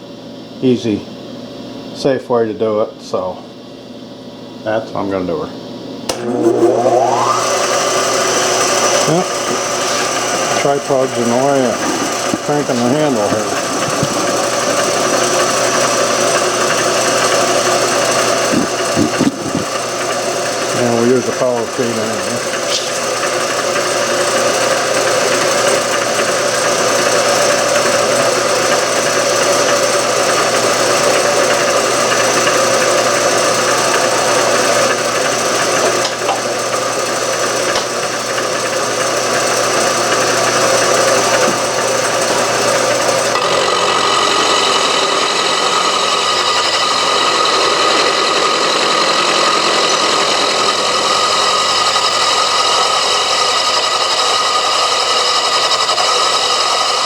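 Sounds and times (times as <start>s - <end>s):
milling machine cutting metal: 6.1s - 57.0s.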